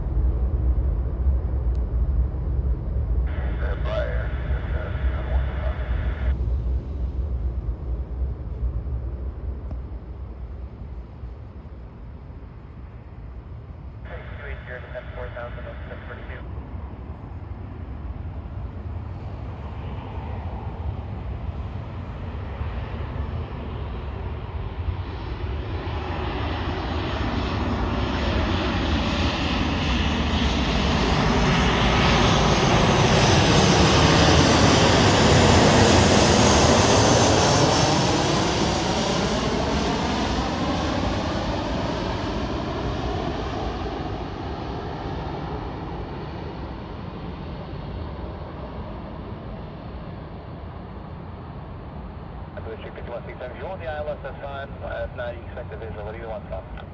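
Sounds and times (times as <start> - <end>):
jet passing overhead: 0.0 - 56.9.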